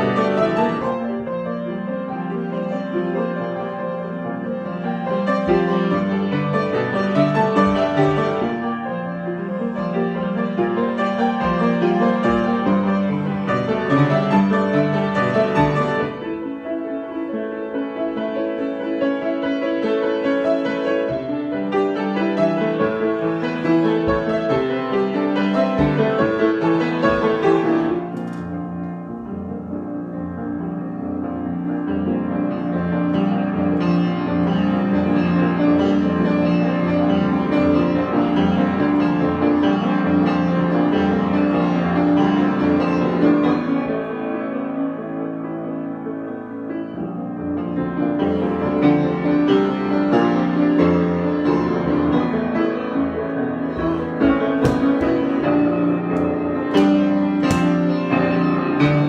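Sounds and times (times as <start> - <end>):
piano improvisation: 0.0 - 59.0.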